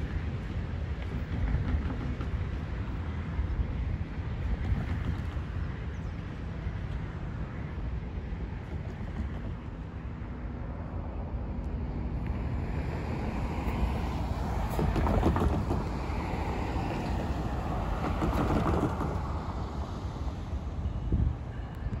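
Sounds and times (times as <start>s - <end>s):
road traffic rumble: 0.0s - 22.0s
wind on microphone: 0.0s - 22.0s.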